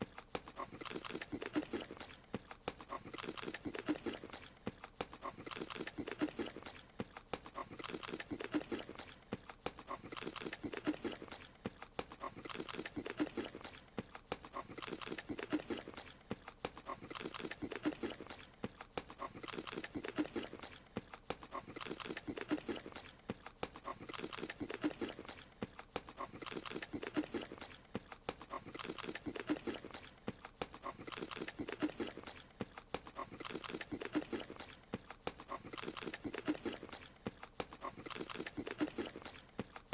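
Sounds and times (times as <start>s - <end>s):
clicky cartoon eating noises: 0.0s - 39.9s.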